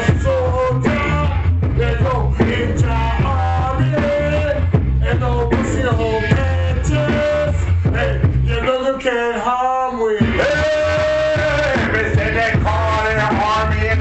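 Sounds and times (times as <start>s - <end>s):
song with heavy bass line: 0.0s - 14.0s.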